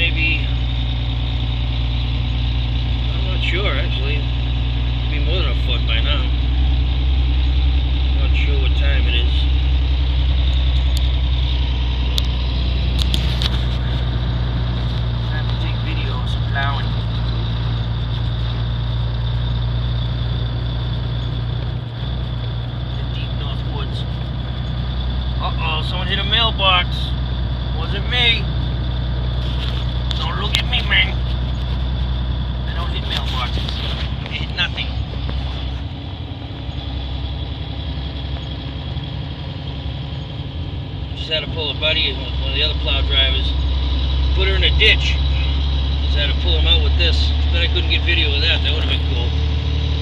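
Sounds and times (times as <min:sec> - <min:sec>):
diesel truck engine drone: 0:00.0 - 0:50.0.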